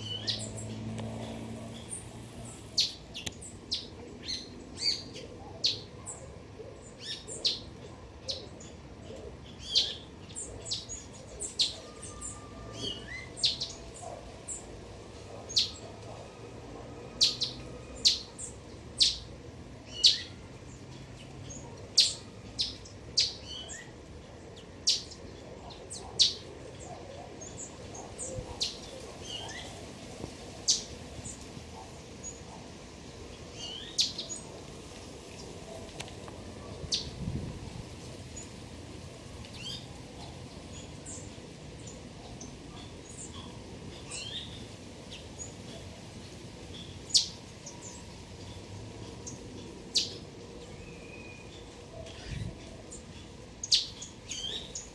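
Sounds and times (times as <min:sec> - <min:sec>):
birds chirping: 0:00.0 - 0:29.9, 0:30.6 - 0:37.2, 0:38.3 - 0:54.9.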